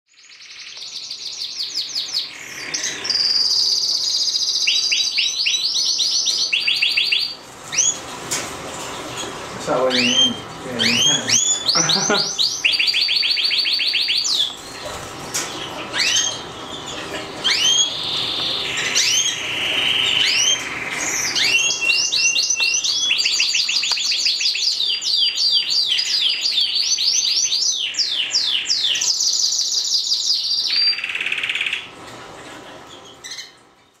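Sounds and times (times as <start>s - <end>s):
canary singing trills: 0.1s - 8.1s, 9.2s - 31.9s.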